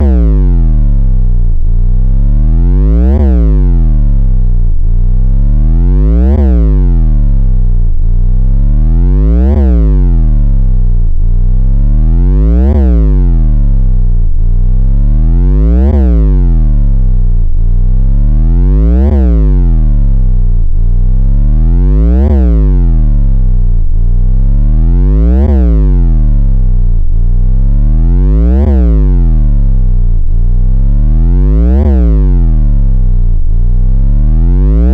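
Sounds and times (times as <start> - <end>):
synth bass drop: 0.0 - 34.9.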